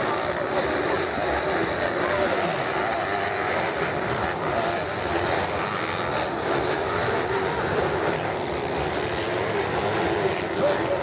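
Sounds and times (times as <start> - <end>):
motocross motorcycle engines: 0.0 - 11.0.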